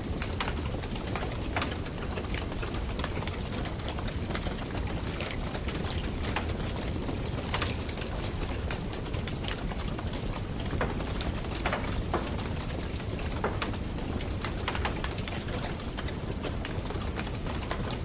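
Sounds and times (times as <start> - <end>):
burning wood crackling and popping: 0.0 - 18.0
campfire roaring: 0.0 - 18.0.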